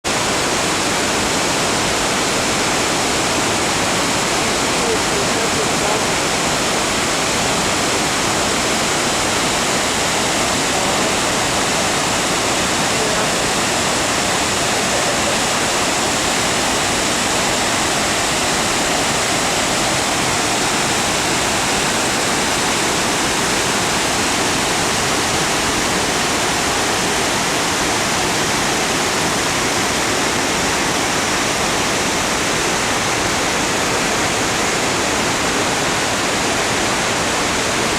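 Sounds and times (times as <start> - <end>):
waterfall roaring: 0.1 - 37.9.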